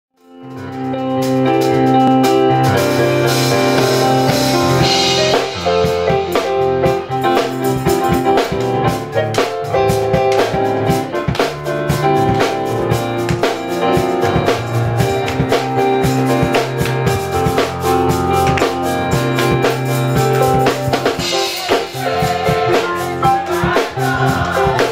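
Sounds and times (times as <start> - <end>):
held keyboard chords: 0.2 - 24.9
drum kit steady beat: 0.7 - 24.9.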